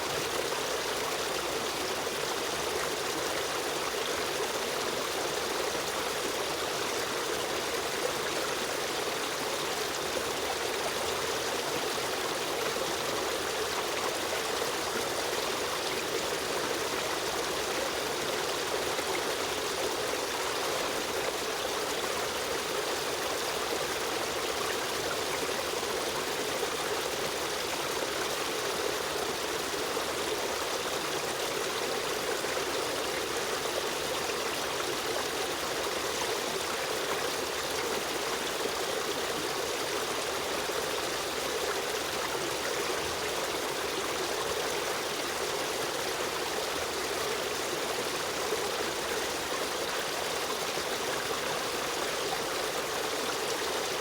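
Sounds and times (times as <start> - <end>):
river stream flowing: 0.0 - 54.0.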